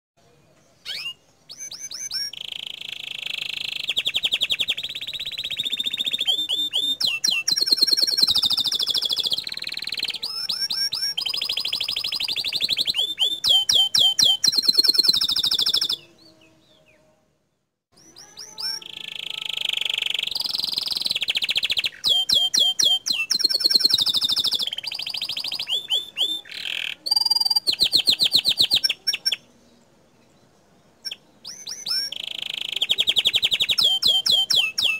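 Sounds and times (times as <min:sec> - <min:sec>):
canary singing trills: 0:00.7 - 0:17.1, 0:18.0 - 0:29.6, 0:30.9 - 0:34.9.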